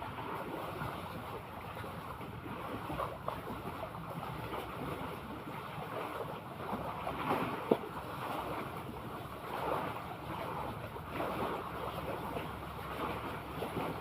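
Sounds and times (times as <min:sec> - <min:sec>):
sea water sloshing and lapping: 0:00.0 - 0:14.0.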